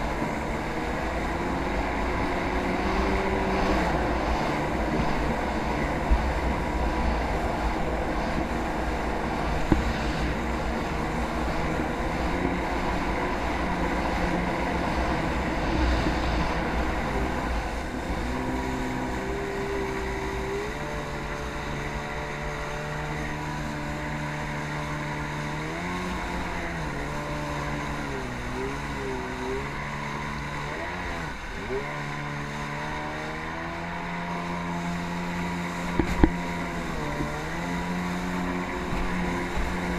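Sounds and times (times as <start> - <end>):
jet ski engine: 0.0 - 39.9
rushing wind: 0.0 - 39.9
water rushing: 0.0 - 39.9.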